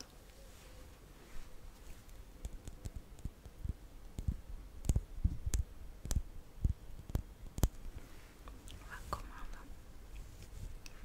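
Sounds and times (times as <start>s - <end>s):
soft clicks and taps: 1.7s - 11.0s.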